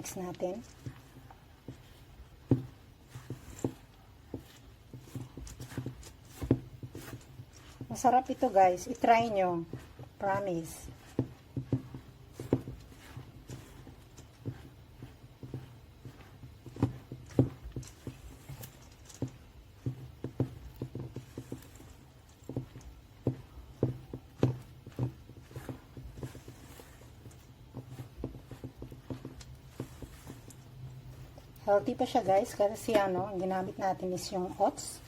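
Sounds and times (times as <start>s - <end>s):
utensil scraping mixing bowl: 0.0s - 35.0s.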